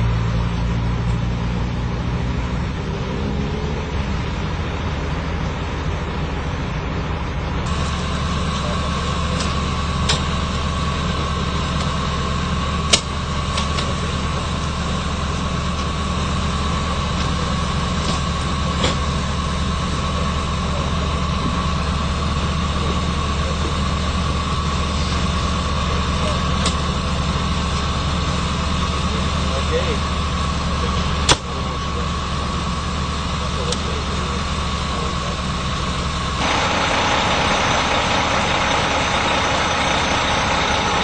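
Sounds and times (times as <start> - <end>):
car engine idling: 3.8 - 41.0.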